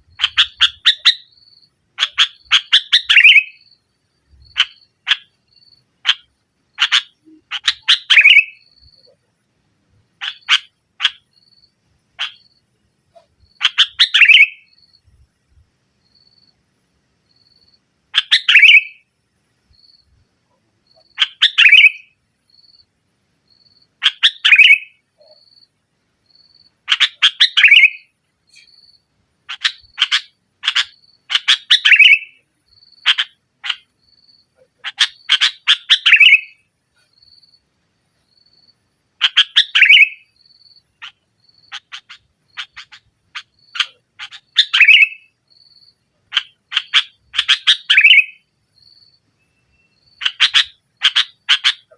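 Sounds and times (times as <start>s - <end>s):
bulbul chattering song: 0.0s - 9.3s, 10.2s - 15.2s, 17.3s - 19.1s, 19.8s - 22.9s, 23.5s - 37.6s, 38.4s - 51.9s.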